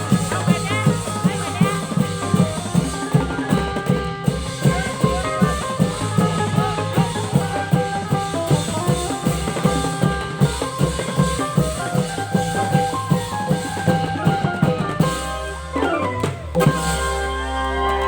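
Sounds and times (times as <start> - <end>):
long-drum ensemble beat: 0.0 - 18.0.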